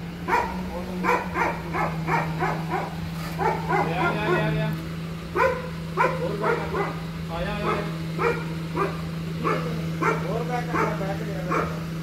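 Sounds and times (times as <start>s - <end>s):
dog drawn-out call: 0.2s - 4.7s, 5.3s - 11.8s
dogs barking: 0.2s - 4.7s, 5.3s - 12.0s.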